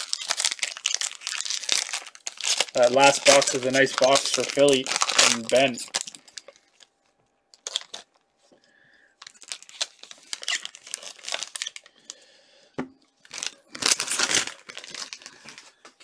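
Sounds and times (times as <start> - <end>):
foil wrapper crinkling and tearing: 0.0 - 6.9, 7.5 - 8.2, 9.2 - 12.3, 13.2 - 15.9.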